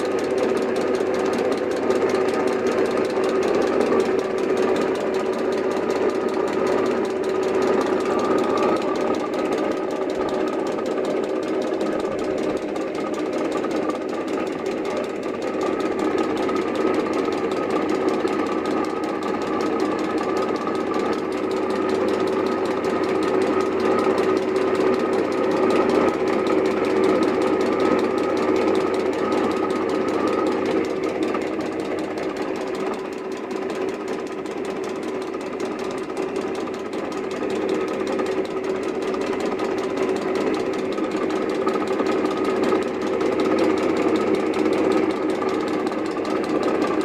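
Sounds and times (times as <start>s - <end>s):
metal lathe humming and rattling: 0.0s - 47.0s.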